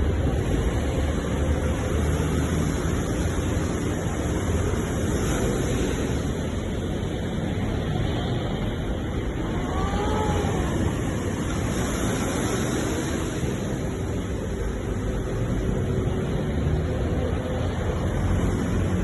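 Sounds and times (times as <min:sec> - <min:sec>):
ocean surf waves breaking: 0:00.0 - 0:19.0.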